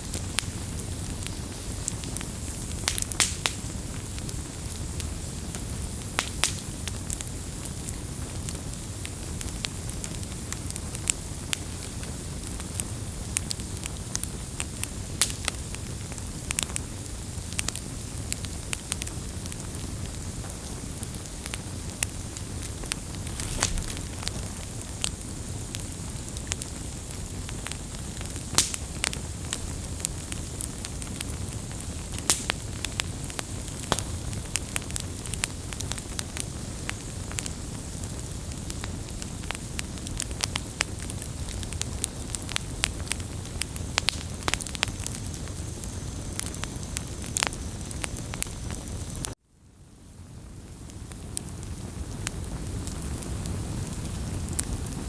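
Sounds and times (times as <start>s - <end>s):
burning wood crackling and popping: 0.0s - 49.4s, 50.0s - 55.0s
campfire flames rumbling: 0.0s - 55.0s.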